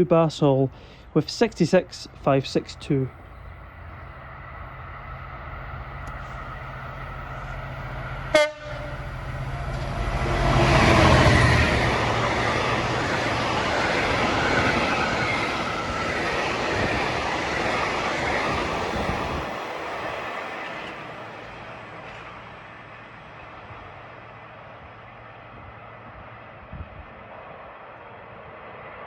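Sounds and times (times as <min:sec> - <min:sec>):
freight wagons rumbling by: 0:00.0 - 0:23.3
locomotive engine drone: 0:00.0 - 0:29.0.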